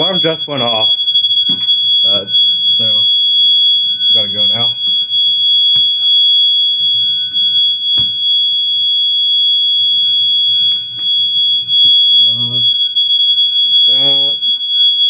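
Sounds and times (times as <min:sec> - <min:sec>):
fire alarm tone: 0:00.0 - 0:15.0.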